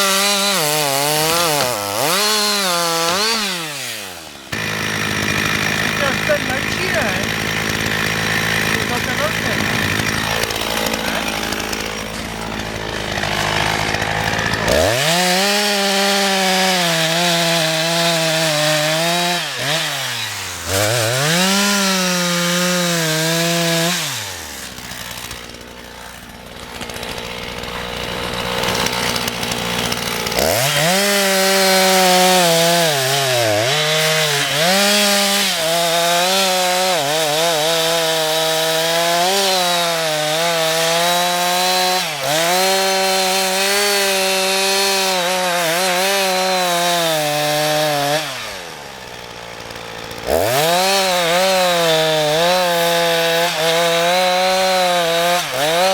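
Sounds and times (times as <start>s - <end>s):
chainsaw idling and cutting wood: 0.0s - 55.9s.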